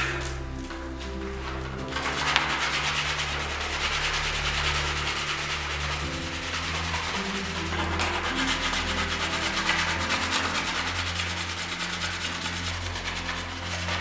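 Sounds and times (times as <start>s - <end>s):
sanding sponge rasping on helmet: 1.4s - 14.0s.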